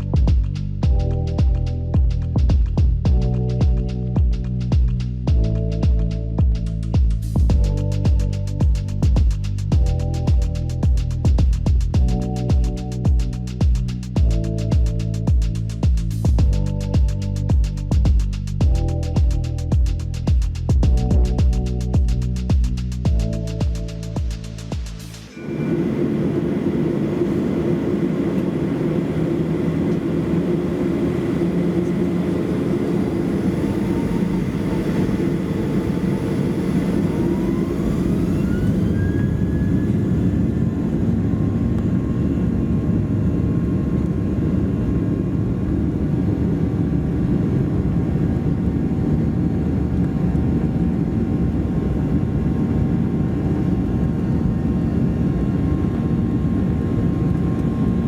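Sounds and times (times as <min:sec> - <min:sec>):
engine whine rising: 0:00.0 - 0:54.1
jet engine rumble in cabin: 0:00.0 - 0:58.0.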